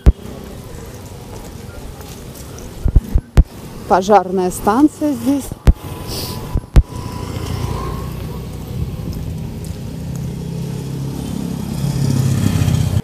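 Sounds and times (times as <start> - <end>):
scooter engine humming: 0.0 - 13.0.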